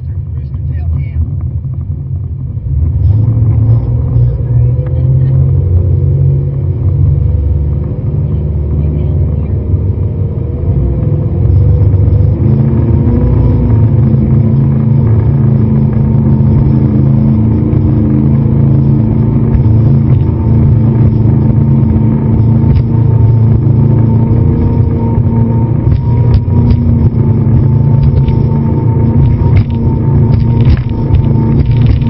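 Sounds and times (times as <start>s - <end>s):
speedboat engines droning: 0.0s - 32.0s.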